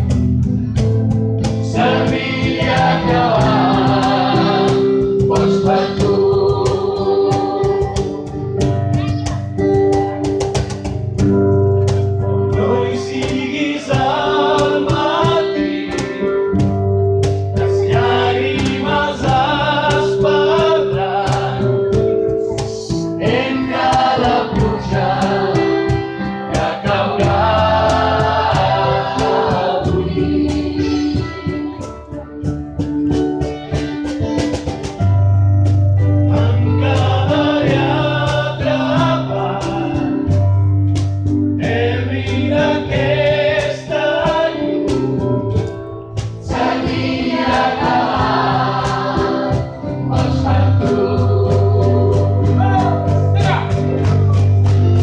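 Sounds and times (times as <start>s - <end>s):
vocal group singing pop ballad: 0.0s - 32.5s, 36.0s - 55.0s
instrumental accompaniment with bass: 0.0s - 55.0s.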